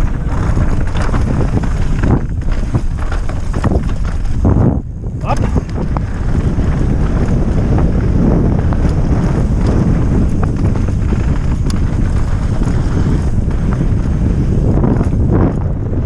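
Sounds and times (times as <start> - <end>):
bike rattling clicks and knocks: 0.0 - 16.0
wind buffeting microphone: 0.0 - 16.0.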